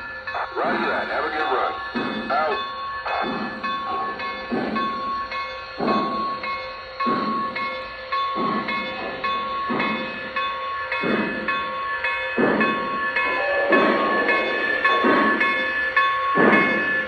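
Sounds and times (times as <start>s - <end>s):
model steam locomotive chuffs: 0.0s - 17.0s.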